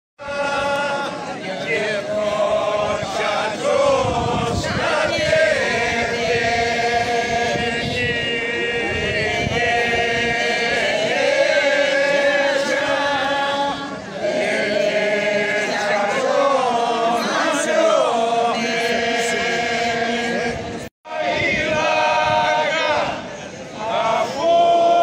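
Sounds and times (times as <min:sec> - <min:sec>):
men singing unaccompanied: 0:00.2 - 0:23.2, 0:23.8 - 0:25.0.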